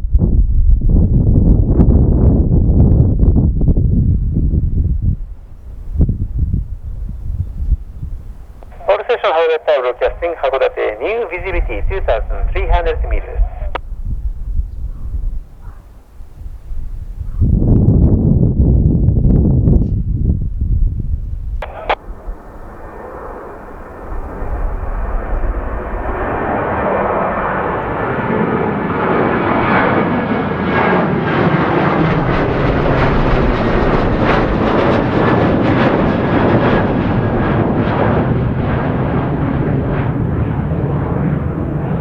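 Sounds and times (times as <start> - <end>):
wind buffeting microphone: 0.0 - 9.0, 10.0 - 42.0
airliner engines at takeoff: 0.6 - 19.7, 20.3 - 42.0.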